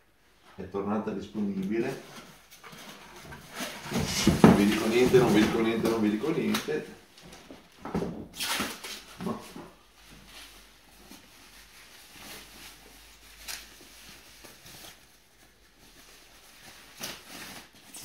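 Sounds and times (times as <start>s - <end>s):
plastic bag rustling and crinkling: 1.4s - 7.8s, 8.4s - 18.0s.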